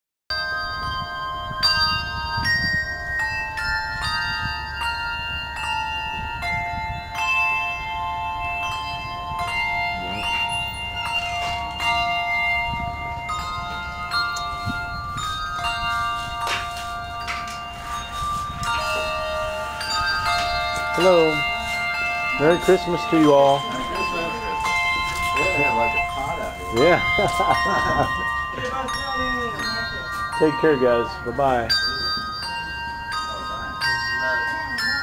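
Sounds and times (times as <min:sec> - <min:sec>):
handbells ringing a tune: 0:00.3 - 0:35.0.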